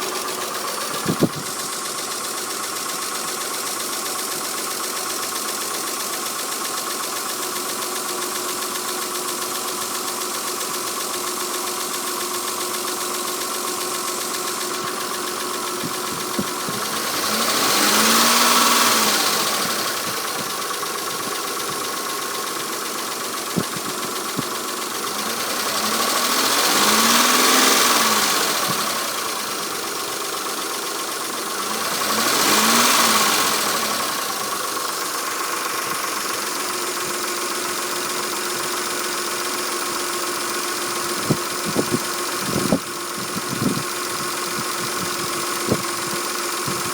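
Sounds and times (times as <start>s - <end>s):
engine idling and revving: 0.0s - 46.9s.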